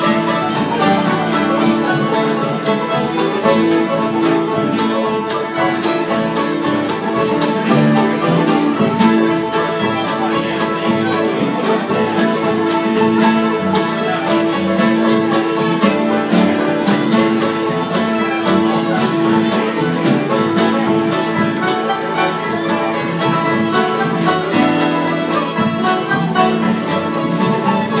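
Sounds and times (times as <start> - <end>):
acoustic guitars strummed: 0.0 - 28.0
plucked strings: 0.0 - 28.0
upright bass: 0.0 - 28.0.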